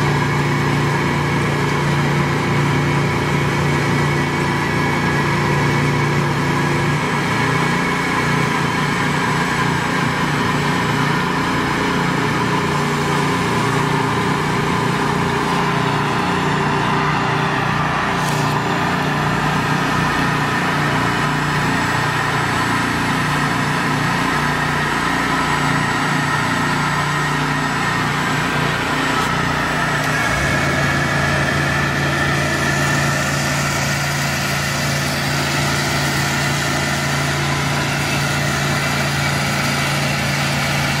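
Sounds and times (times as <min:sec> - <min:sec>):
small engine running: 0:00.0 - 0:41.0.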